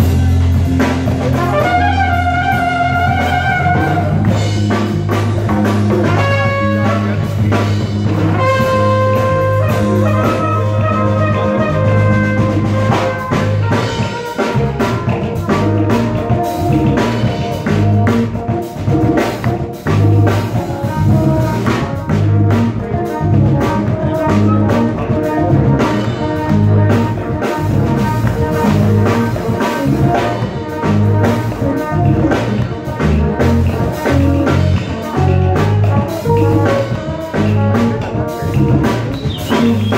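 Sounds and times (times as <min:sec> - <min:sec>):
djembes: 0:00.0 - 0:39.9
drum kit: 0:00.0 - 0:39.9
electric bass: 0:00.0 - 0:39.9
horn section playing: 0:00.0 - 0:39.9.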